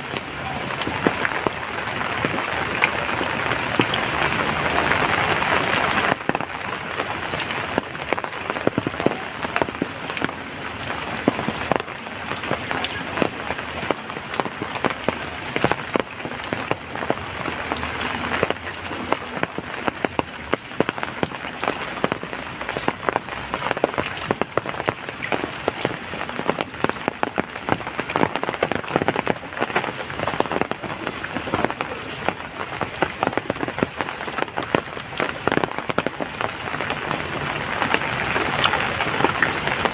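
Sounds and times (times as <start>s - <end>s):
rain drops tapping a surface: 0.0s - 39.9s.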